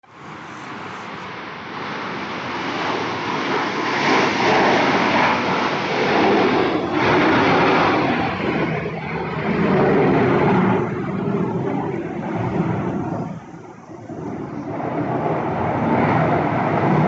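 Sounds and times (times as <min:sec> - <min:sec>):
aircraft engine flying past: 0:00.1 - 0:17.0.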